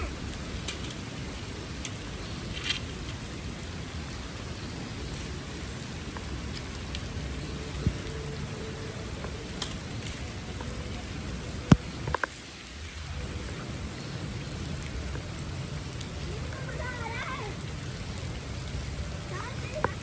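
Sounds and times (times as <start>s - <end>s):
sharp drips or splashes: 0.0s - 20.0s
steady rain falling: 0.0s - 20.0s.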